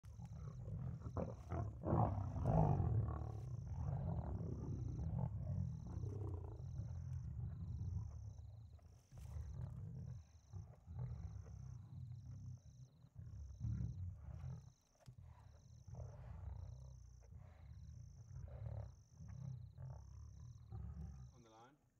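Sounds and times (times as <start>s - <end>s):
lion growling: 0.0s - 21.6s.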